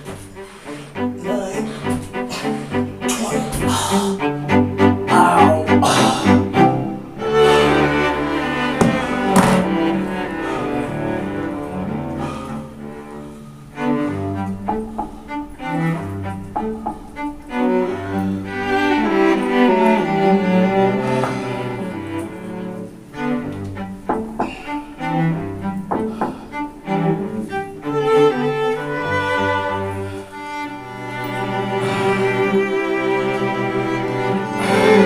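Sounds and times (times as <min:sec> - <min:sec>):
bowed string music: 0:00.0 - 0:35.0.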